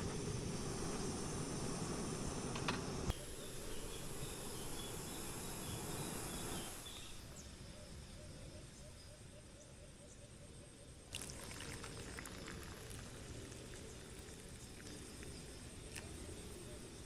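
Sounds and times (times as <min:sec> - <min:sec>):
faint insect chirps: 0:00.0 - 0:17.0
steady background hiss: 0:00.0 - 0:17.0.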